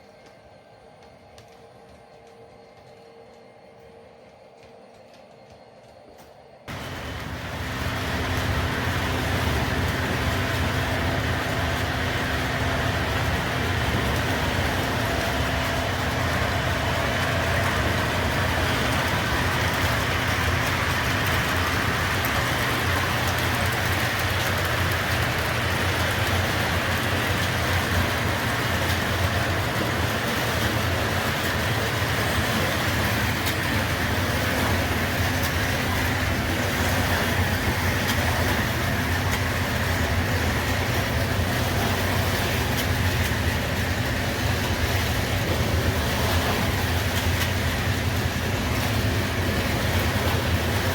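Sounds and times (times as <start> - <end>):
model train running on track: 0.0 - 50.9
diesel engine drone from speaker: 6.7 - 50.9.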